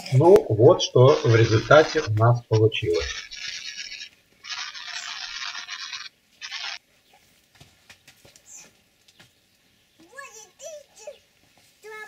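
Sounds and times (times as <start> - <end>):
leaves rustling and scraping: 0.9 - 9.5, 10.1 - 12.0.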